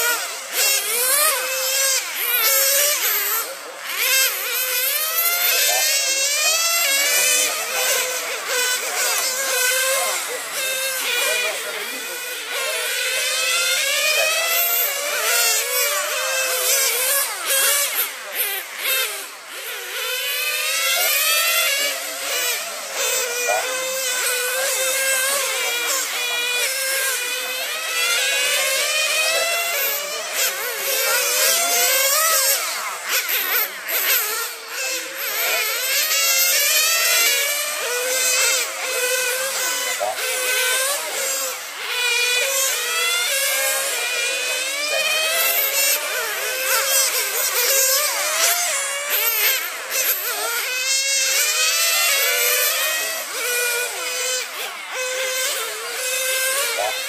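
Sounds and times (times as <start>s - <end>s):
model racing car motors buzzing: 0.0s - 57.0s.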